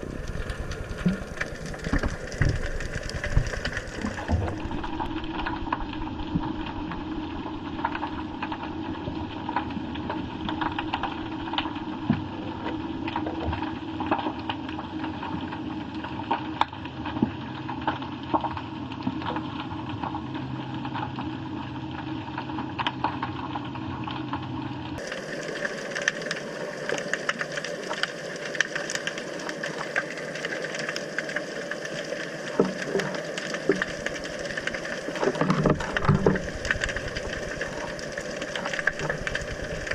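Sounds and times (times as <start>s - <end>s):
crackle of small clicks: 0.0s - 39.9s
underwater engine hum: 0.0s - 39.9s.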